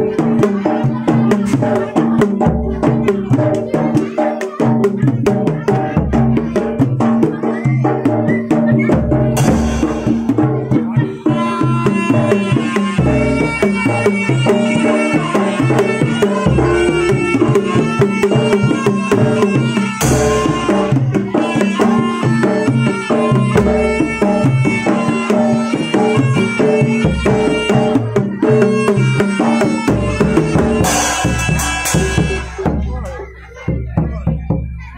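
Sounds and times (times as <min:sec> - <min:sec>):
metallic gamelan tones: 0:00.0 - 0:34.8
hand drums fast beat: 0:00.0 - 0:34.9.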